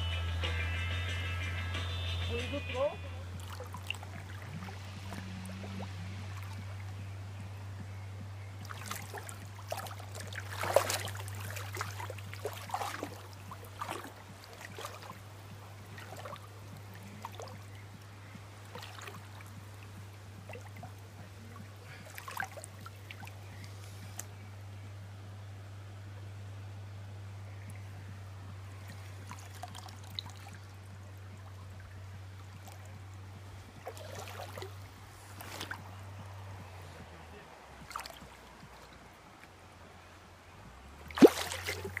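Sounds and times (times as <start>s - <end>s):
river water running: 0.0s - 42.0s
steady low hum: 0.0s - 42.0s
small water splashes: 2.8s - 24.4s, 27.5s - 42.0s.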